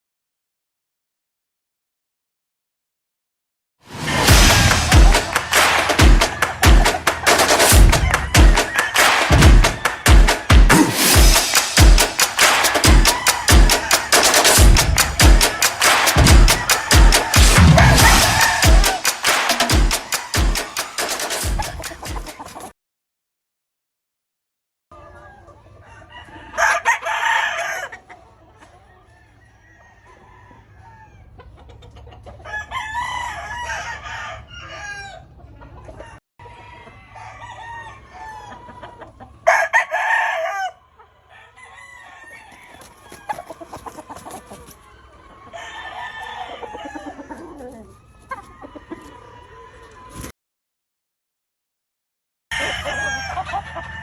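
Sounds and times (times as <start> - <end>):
roosters crowing: 4.3 - 22.7, 25.0 - 28.2, 29.0 - 31.4, 32.3 - 50.3, 52.5 - 54.0
birds clucking and calling: 4.7 - 22.7, 25.0 - 50.3, 52.5 - 54.0.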